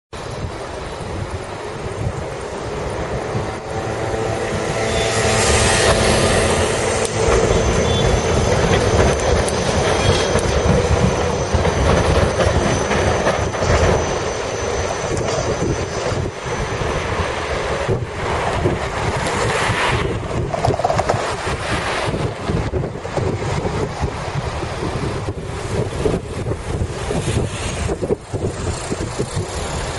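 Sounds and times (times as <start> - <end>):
road traffic passing: 0.1 - 29.9
trams rumbling on rails: 0.1 - 29.9.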